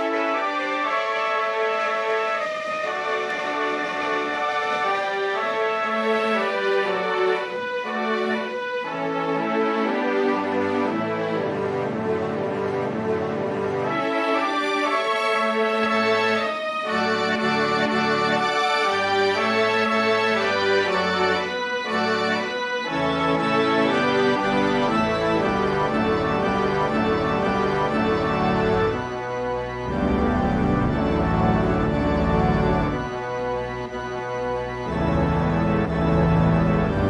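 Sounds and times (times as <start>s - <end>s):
organ-like keyboard chords: 0.0s - 37.0s.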